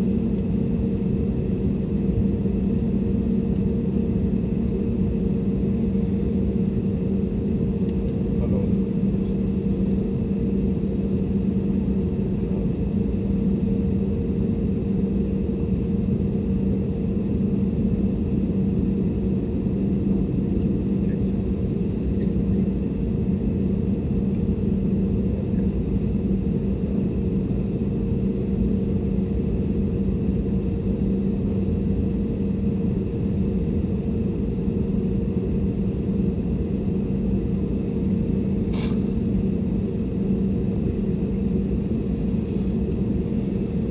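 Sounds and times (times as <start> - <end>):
aircraft engine drone in cabin: 0.0 - 43.9.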